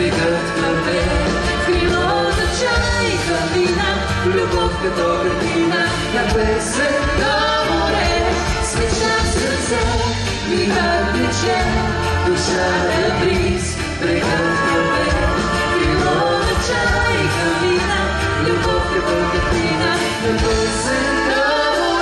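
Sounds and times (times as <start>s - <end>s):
band of strings keyboard and guitar: 0.0s - 22.0s
man and woman singing duet: 0.0s - 22.0s.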